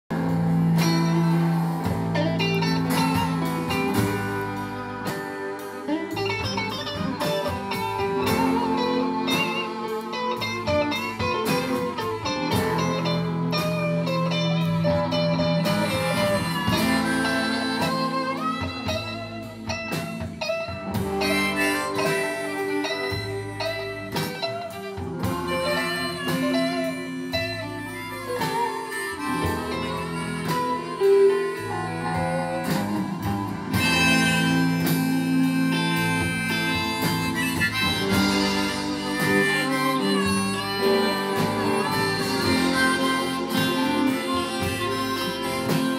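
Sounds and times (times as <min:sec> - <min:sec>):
harmonica bending notes: 0:00.1 - 0:45.9
strummed acoustic guitar: 0:00.1 - 0:45.9.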